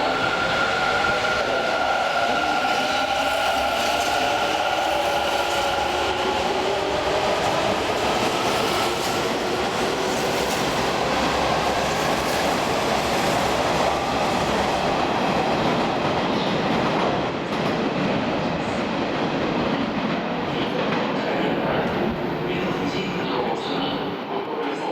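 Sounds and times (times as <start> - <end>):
train wheels rushing on rail: 0.0 - 24.9.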